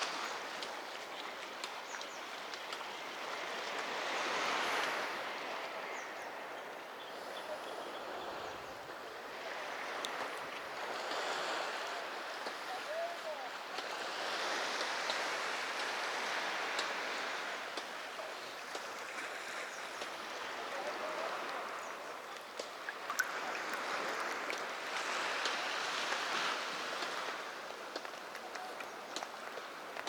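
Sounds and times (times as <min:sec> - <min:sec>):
sea surf breaking on beach: 0:00.0 - 0:06.0, 0:08.2 - 0:30.0.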